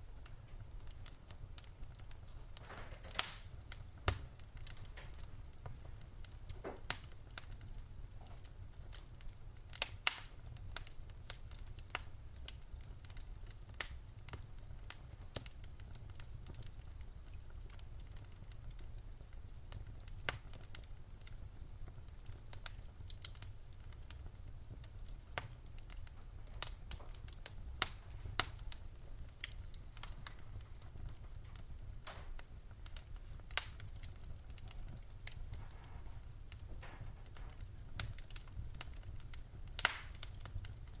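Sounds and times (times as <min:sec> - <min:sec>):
firewood crackling and popping: 0:00.0 - 0:41.0.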